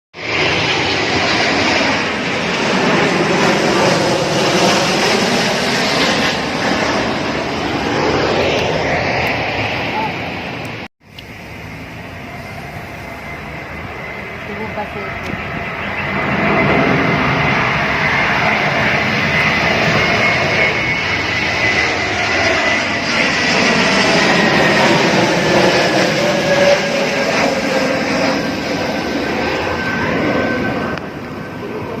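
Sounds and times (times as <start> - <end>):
airplane engines running: 0.2 - 32.0.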